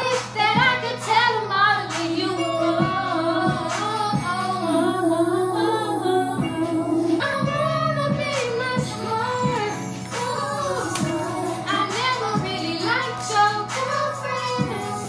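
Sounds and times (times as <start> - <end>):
backing music with slow beat: 0.0 - 15.0
woman singing: 0.0 - 15.0.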